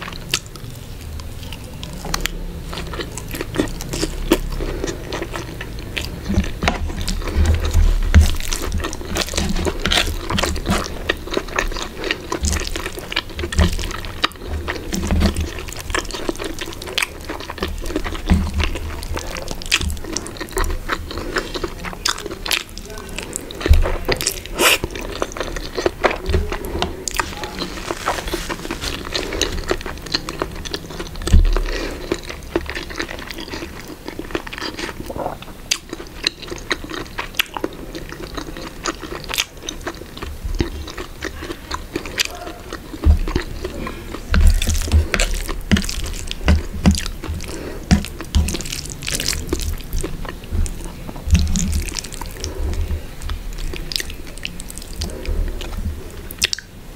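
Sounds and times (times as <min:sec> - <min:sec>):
chewing and biting food: 0:00.0 - 0:56.8.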